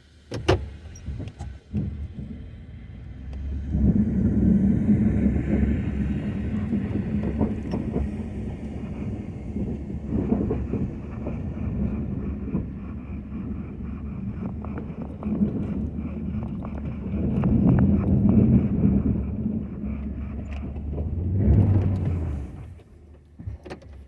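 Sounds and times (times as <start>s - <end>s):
pickup truck engine droning: 0.5s - 24.0s.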